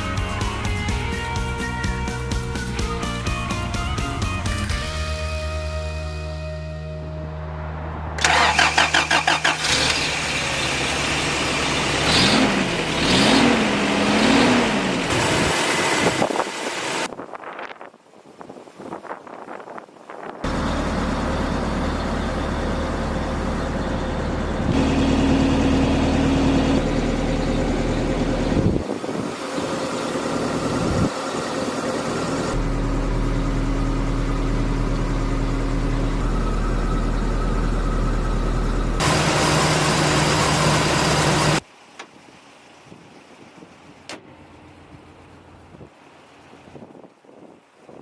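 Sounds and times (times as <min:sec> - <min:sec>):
truck engine idling: 0:00.0 - 0:17.1, 0:20.4 - 0:46.8.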